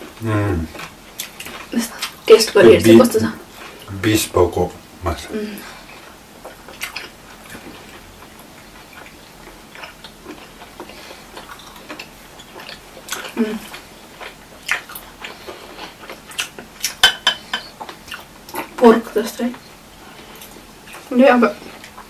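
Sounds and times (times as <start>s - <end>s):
chewing and mouth sounds: 0.0s - 2.3s, 5.8s - 18.8s, 19.5s - 22.0s.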